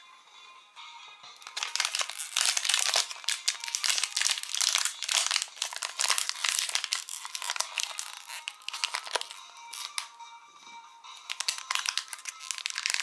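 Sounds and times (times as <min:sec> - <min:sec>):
plastic wrapper crinkling: 0:01.4 - 0:10.1, 0:11.2 - 0:13.0.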